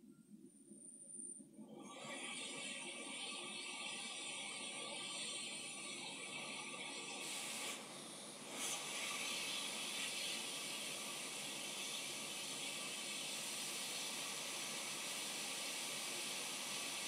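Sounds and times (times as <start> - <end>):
hot-air station hissing: 1.8 - 17.0.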